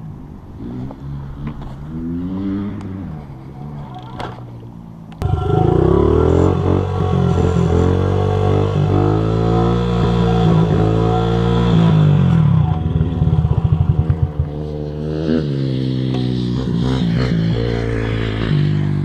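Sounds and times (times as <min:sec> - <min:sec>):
motorcycle engine revving: 0:00.6 - 0:19.0.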